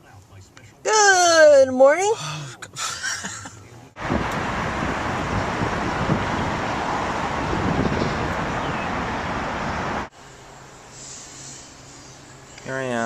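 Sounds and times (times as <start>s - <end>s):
traffic noise with low rumble: 0.0s - 13.0s.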